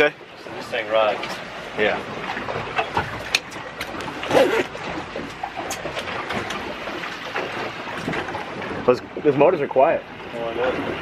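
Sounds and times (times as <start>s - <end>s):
outboard motors running: 0.0s - 11.0s.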